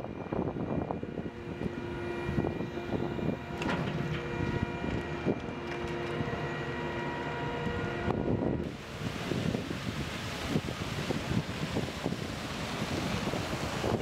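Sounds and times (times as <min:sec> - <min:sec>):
heavy machinery engine hum: 0:00.0 - 0:14.0.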